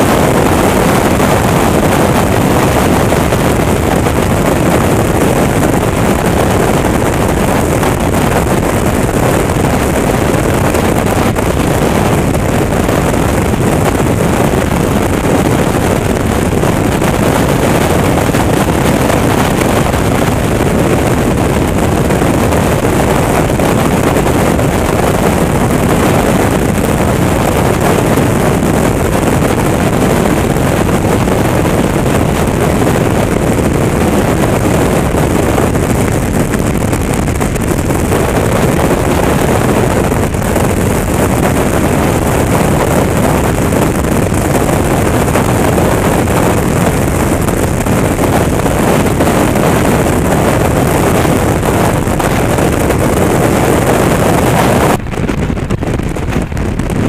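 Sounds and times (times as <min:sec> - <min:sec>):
motorcycle running: 0:00.0 - 0:57.0
road noise: 0:00.0 - 0:57.0
wind rush on microphone: 0:00.0 - 0:57.0.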